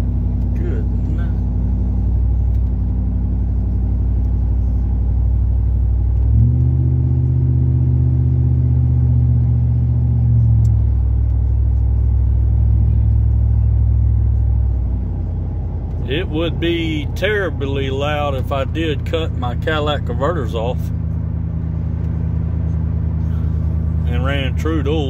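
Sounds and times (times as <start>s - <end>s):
truck exhaust drone: 0.0s - 25.0s.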